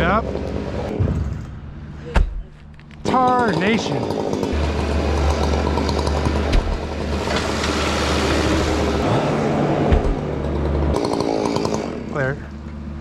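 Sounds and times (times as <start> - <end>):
engine running at low pitch: 0.0 - 13.0.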